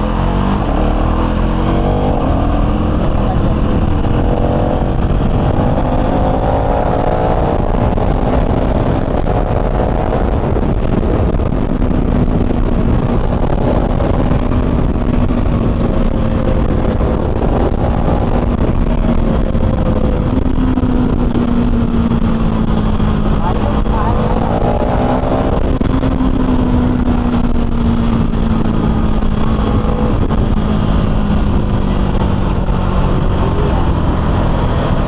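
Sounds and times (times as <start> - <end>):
low rumble: 0.0 - 35.0
motorcycle engine running: 0.0 - 35.0.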